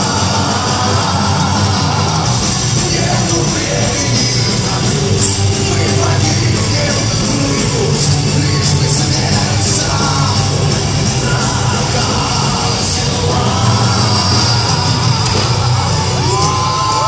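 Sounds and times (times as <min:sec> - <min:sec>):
heavy metal band playing: 0:00.0 - 0:17.0.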